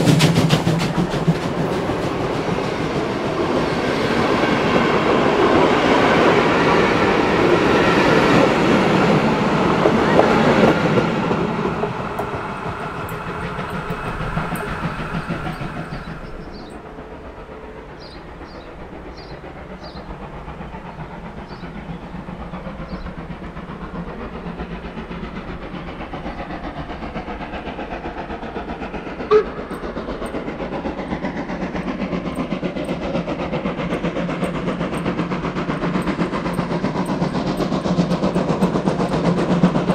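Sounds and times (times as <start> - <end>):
steam locomotive exhaust beats: 0.0 - 39.9
wheels clicking over rail joints: 4.1 - 39.9.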